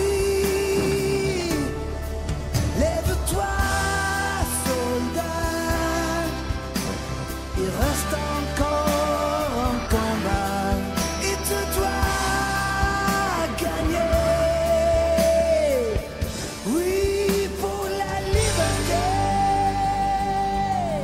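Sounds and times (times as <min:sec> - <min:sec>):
instrumental backing: 0:00.0 - 0:21.0
person singing ballad: 0:00.0 - 0:21.0.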